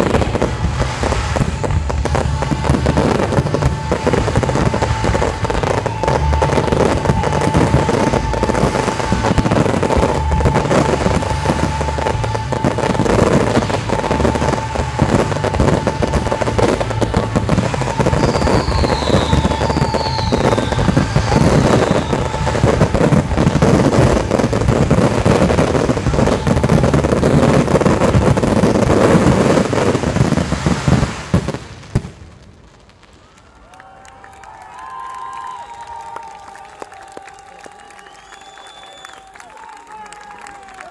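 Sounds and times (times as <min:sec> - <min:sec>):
fireworks bursts and crackling: 0:00.0 - 0:40.9
fireworks falling whistles: 0:00.0 - 0:40.9.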